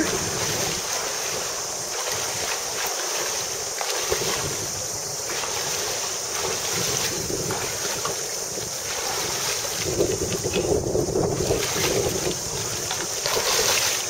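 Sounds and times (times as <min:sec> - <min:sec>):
river water rushing: 0:00.0 - 0:14.0
wind rumbling on microphone: 0:00.0 - 0:14.0.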